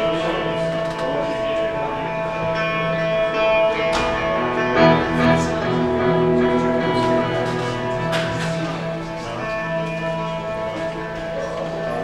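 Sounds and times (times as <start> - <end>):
guitar playing: 0.0 - 12.0.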